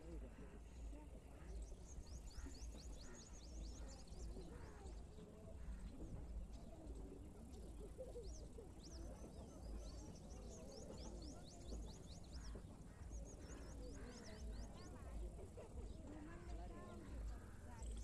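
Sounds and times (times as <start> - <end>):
birds chirping: 0.1 - 18.0.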